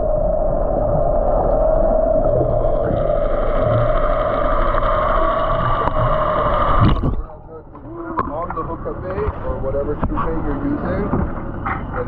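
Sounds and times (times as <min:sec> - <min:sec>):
boat engine droning underwater: 0:00.0 - 0:12.0.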